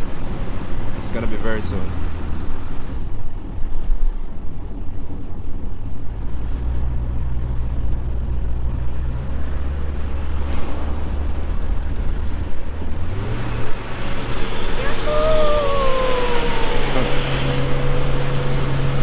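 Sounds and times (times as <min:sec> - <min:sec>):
road noise: 0:00.0 - 0:19.0
van engine running: 0:00.0 - 0:19.0.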